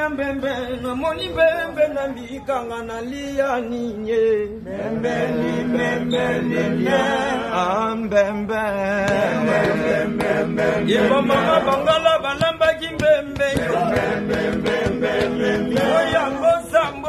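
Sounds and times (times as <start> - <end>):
men singing a chant: 0.0 - 17.0.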